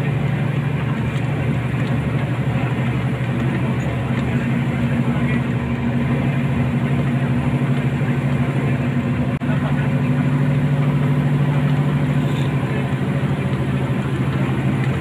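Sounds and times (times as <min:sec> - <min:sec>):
bus diesel engine drone: 0:00.0 - 0:15.0
road noise: 0:00.0 - 0:15.0.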